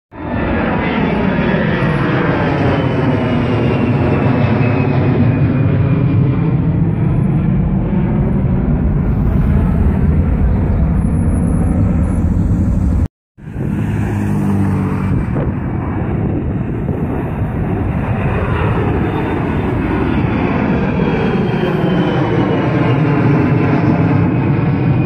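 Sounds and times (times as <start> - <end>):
jet airliner flying overhead: 0.1 - 25.0.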